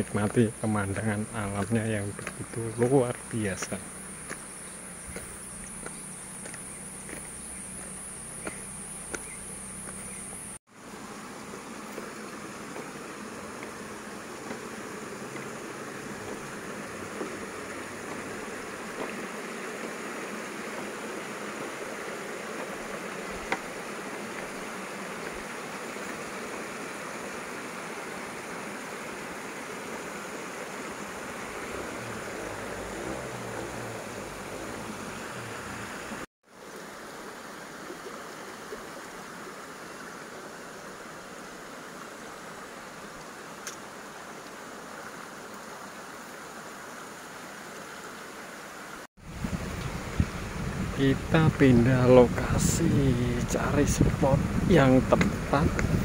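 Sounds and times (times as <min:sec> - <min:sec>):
mountain stream rushing: 0:00.0 - 0:56.0.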